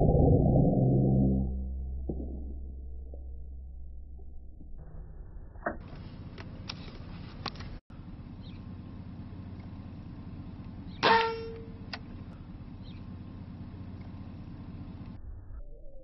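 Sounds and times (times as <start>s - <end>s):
low background rumble: 0.0s - 15.8s.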